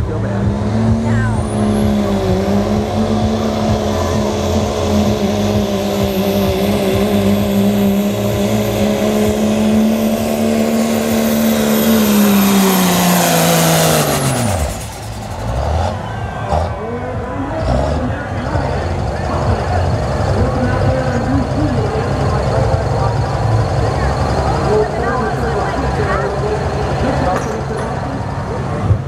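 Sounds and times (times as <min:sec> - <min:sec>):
diesel truck engine at full throttle: 0:00.0 - 0:29.0.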